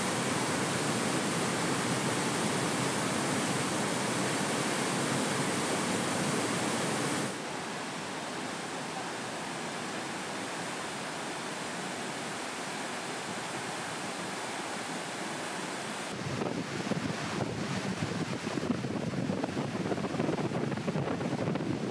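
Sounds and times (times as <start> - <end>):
running water rushing: 0.0 - 21.9.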